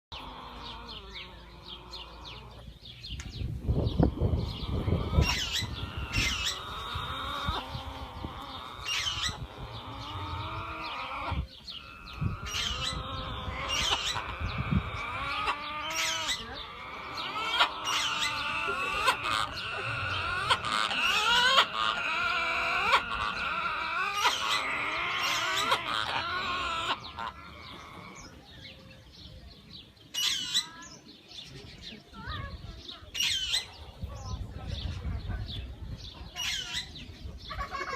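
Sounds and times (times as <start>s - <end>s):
parrot calling and chattering: 3.6s - 28.9s, 30.1s - 30.9s, 32.1s - 35.0s, 36.1s - 37.9s.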